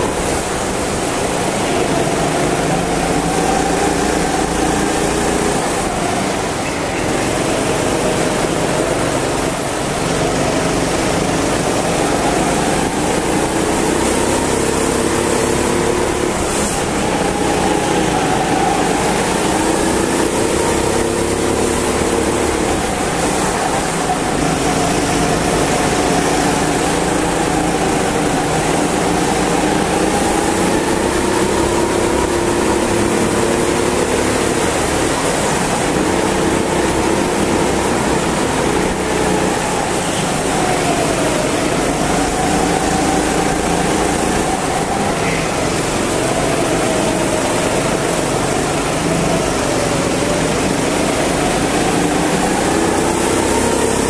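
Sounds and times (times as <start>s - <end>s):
go-kart engine revving: 0.0s - 54.0s
other kart engines: 0.0s - 54.0s.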